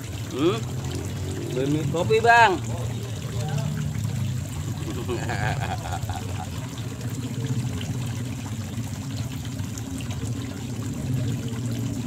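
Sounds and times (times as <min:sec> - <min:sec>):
running water trickling: 0:00.0 - 0:12.0.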